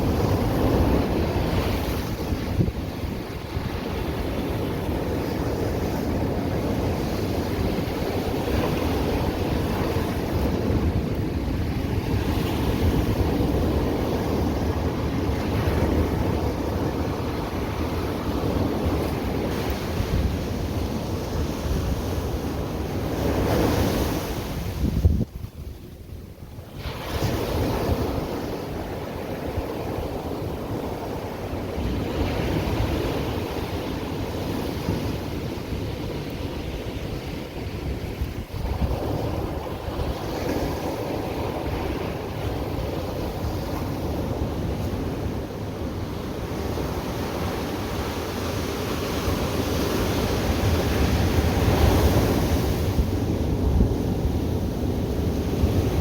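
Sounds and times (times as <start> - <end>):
ocean surf breaking: 0.0 - 25.1, 26.7 - 56.0
wind buffeting microphone: 0.0 - 56.0.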